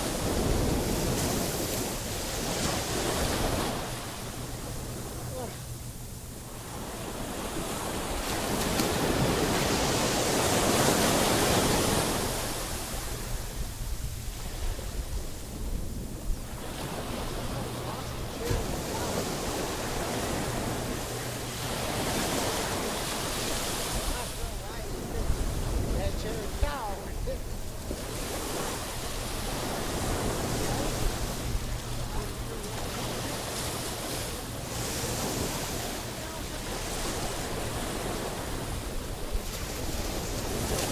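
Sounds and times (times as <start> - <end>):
sea surf washing onto beach: 0.0 - 40.9
waves breaking on shore: 0.0 - 40.9.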